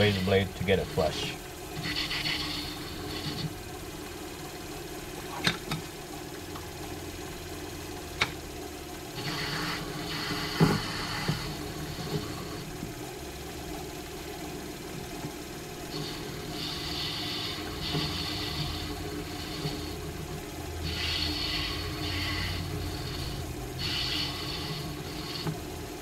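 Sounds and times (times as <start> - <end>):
lathe motor hum: 0.0 - 26.0.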